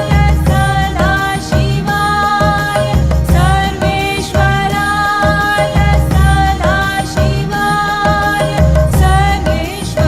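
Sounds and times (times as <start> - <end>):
devotional chant music: 0.0 - 10.0.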